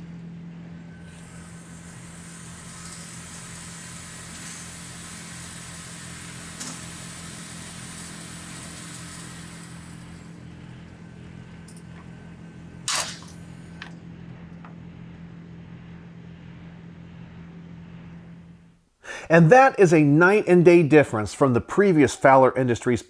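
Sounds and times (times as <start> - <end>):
low mechanical hum: 0.0 - 22.9.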